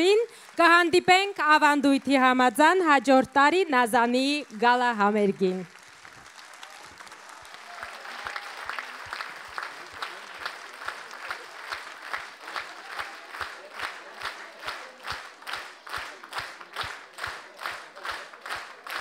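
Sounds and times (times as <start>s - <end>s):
audience clapping in unison: 0.0s - 19.0s.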